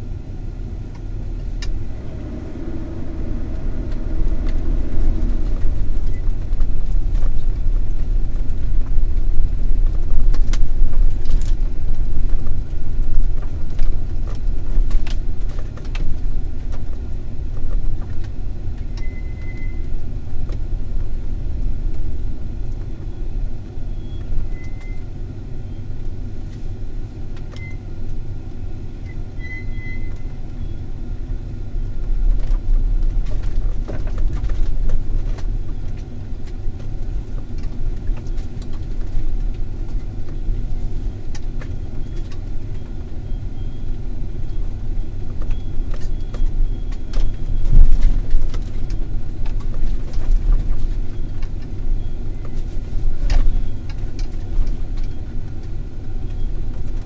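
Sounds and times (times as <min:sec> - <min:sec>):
engine and tyres rumbling: 0:00.0 - 0:57.0.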